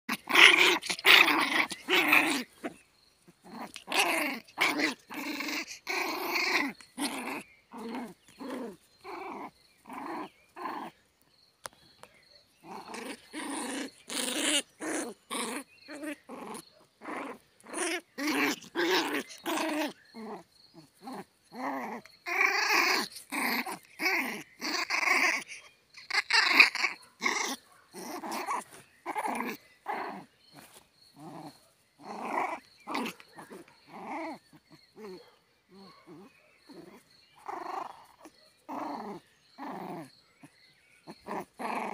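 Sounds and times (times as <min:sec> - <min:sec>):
puppy play-growling: 0:00.1 - 0:11.0, 0:12.6 - 0:41.9.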